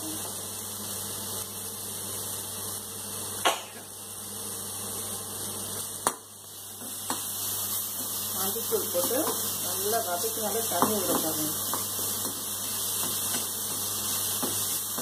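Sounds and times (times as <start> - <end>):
food sizzling in a pan: 0.0 - 15.0
low electrical hum: 0.0 - 15.0.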